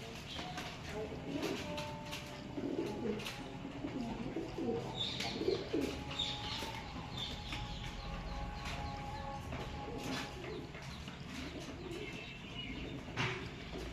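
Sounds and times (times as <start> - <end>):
birds chirping: 0.0 - 13.9
pigeons cooing: 0.0 - 13.9.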